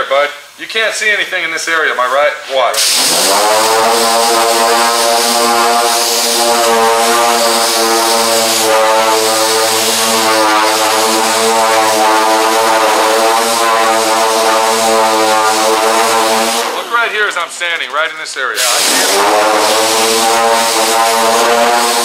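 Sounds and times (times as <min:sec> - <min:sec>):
pneumatic sander whining: 0:02.8 - 0:17.2, 0:18.6 - 0:22.0.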